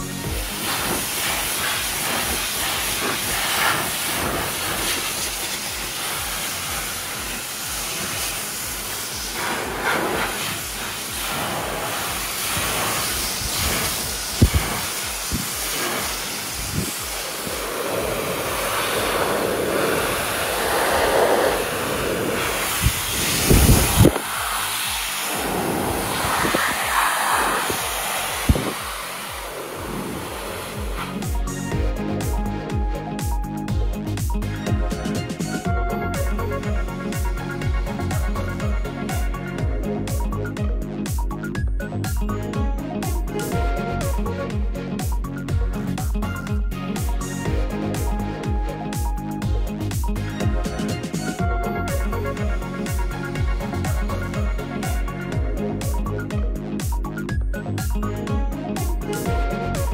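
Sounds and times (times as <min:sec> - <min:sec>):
blow dryer hissing air: 0:00.0 - 0:41.2, 0:42.0 - 0:57.3.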